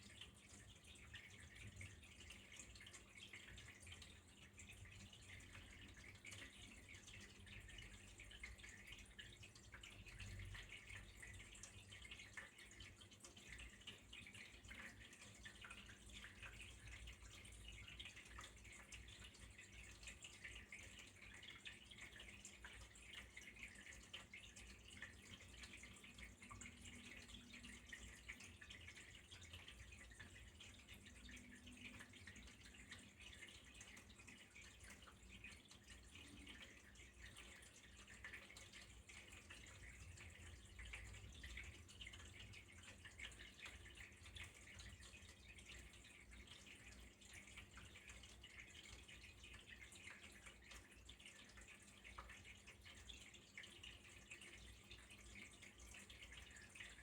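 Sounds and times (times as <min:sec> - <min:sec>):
trickle of running water: 0:00.0 - 0:57.0
water dripping: 0:00.0 - 0:57.0.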